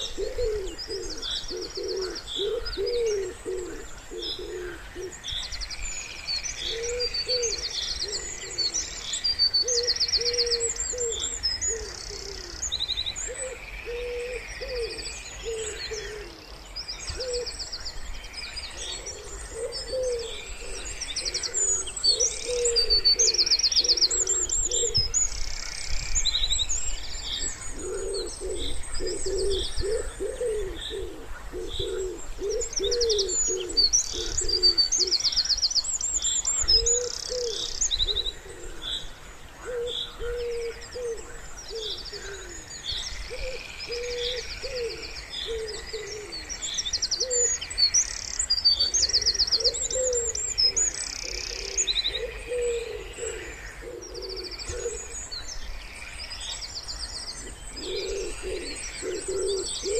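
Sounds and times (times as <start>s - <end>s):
wood pigeons cooing: 0.0s - 5.3s, 6.6s - 17.6s, 18.7s - 26.1s, 27.4s - 35.4s, 36.4s - 47.6s, 48.8s - 55.3s, 57.4s - 59.9s
songbirds chirping and trilling: 0.0s - 59.9s.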